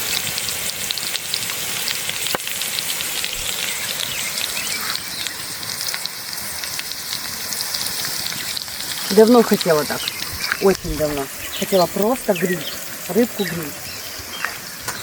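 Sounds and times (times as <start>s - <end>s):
food sizzling in hot fat: 0.0s - 15.0s.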